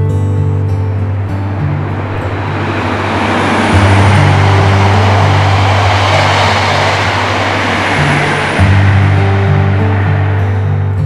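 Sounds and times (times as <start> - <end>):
background music with low notes: 0.0 - 11.0
vehicle passing by: 0.4 - 11.0.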